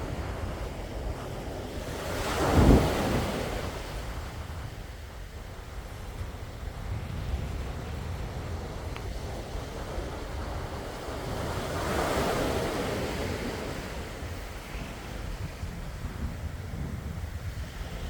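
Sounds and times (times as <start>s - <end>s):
sea waves washing on shore: 0.0s - 18.0s
wind rumble on microphone: 0.0s - 18.0s.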